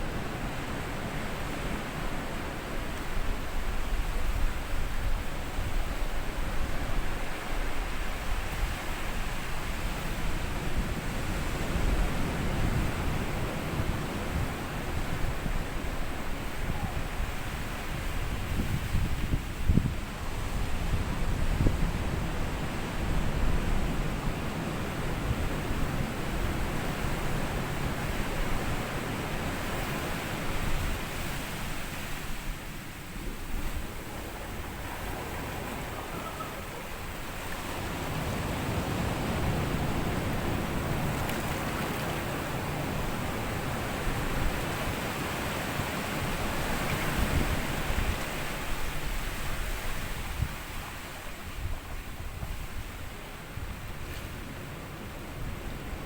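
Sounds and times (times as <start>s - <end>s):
sea waves washing onto sand: 0.0s - 56.0s
wind on microphone: 0.0s - 56.0s.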